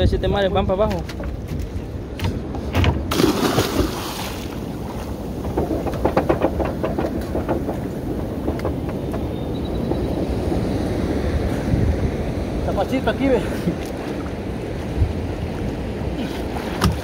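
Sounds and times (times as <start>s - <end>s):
knocks and clatter on boat: 0.0s - 10.7s, 13.6s - 17.0s
wind on microphone: 0.0s - 17.0s
sea noise: 2.4s - 17.0s.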